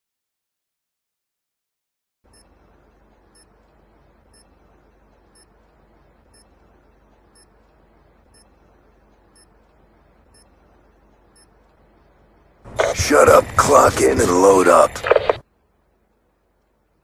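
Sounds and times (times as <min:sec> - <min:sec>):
low hiss: 0:02.3 - 0:17.0.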